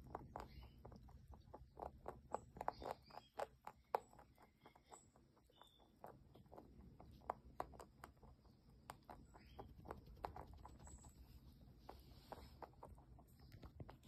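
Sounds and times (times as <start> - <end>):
rabbit crunching a treat: 0.0 - 14.0.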